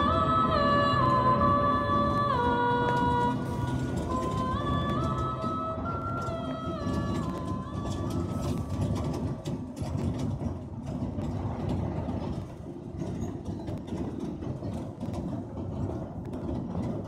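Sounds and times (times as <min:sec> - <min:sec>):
low vehicle rumble: 0:00.0 - 0:17.0
sharp clicks and rattles: 0:02.1 - 0:17.0.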